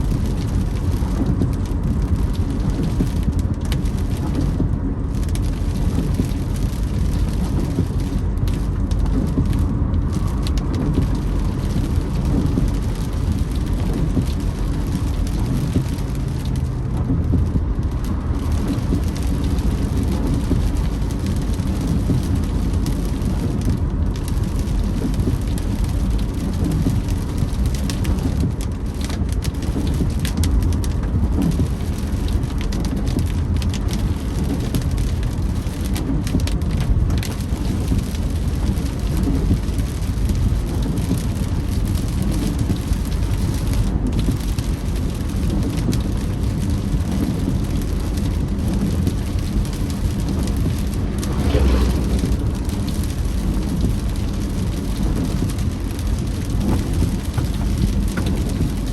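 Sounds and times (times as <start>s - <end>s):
rain on a car: 0.0s - 58.9s
road and tyre noise: 0.0s - 58.9s.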